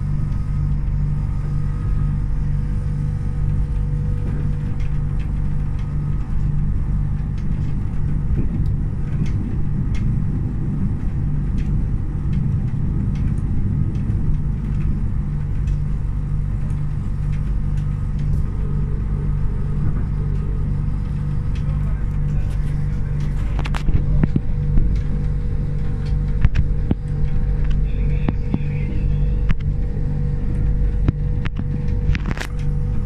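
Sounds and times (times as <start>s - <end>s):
faint clicks and rattles: 0.0s - 33.0s
train rumble inside carriage: 0.0s - 33.0s.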